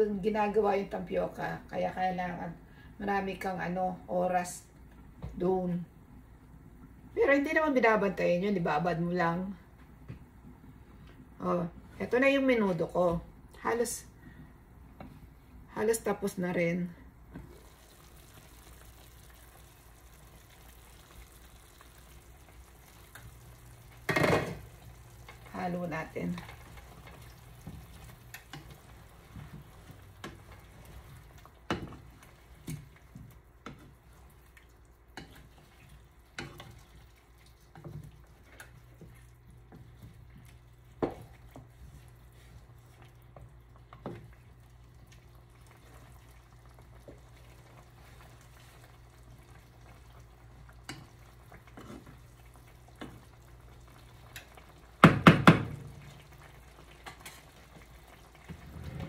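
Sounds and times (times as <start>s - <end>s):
stew simmering in a pot: 0.0s - 59.0s.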